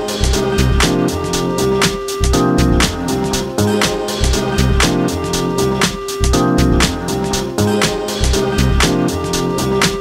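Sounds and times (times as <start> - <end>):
crisp hi-hats: 0.0 - 10.0
electronic drum beat: 0.0 - 10.0
looping bassline: 0.0 - 10.0.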